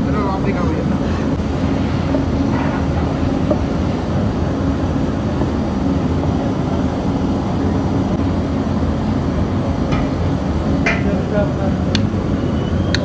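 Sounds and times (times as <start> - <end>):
kitchen equipment low rumble: 0.0 - 13.0.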